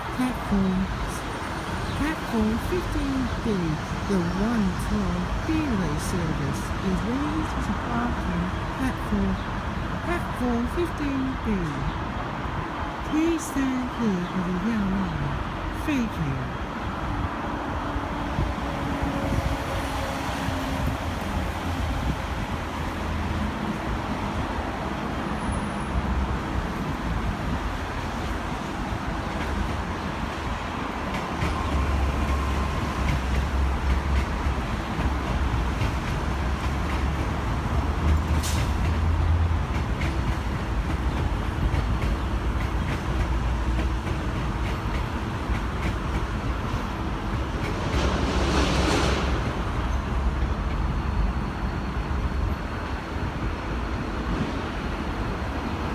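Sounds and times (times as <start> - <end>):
diesel locomotive engine rumbling: 0.0 - 55.9.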